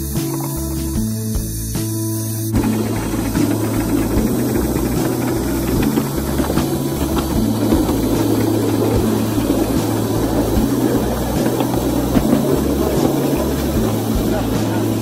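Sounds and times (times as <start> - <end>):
steam locomotive wheels rumbling: 2.6 - 15.0.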